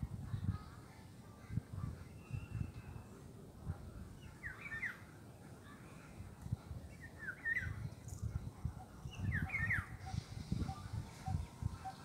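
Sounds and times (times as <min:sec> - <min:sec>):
songbird chirping: 0:02.0 - 0:12.0.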